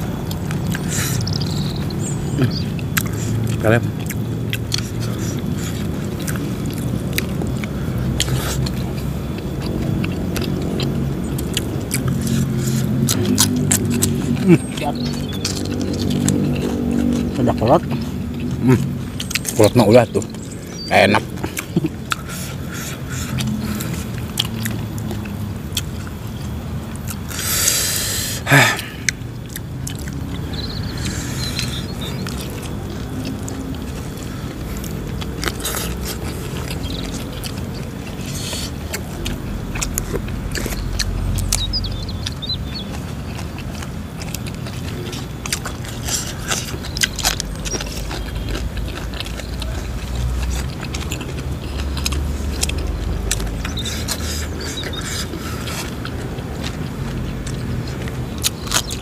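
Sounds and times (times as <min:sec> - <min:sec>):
crunching and chewing food: 0:00.0 - 0:59.0
mouth clicks and smacks: 0:00.0 - 0:59.0
steady low rumble: 0:00.0 - 0:59.0.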